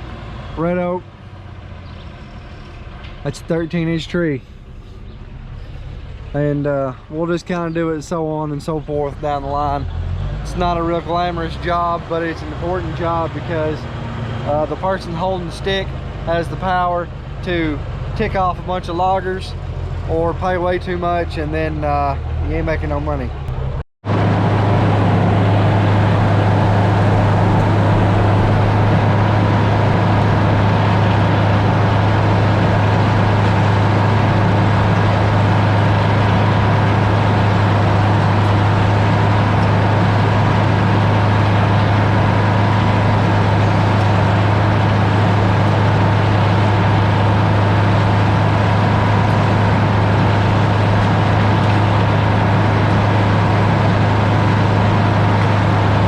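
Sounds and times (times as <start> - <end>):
sawmill engine droning: 0.0 - 56.0.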